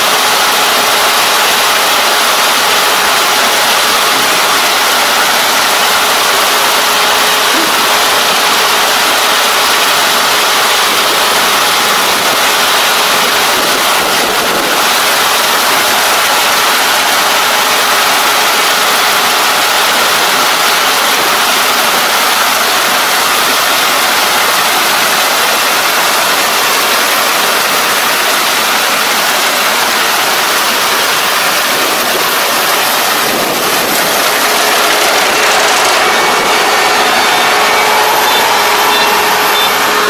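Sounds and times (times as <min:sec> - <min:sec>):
combine harvester working: 0:00.0 - 0:40.0.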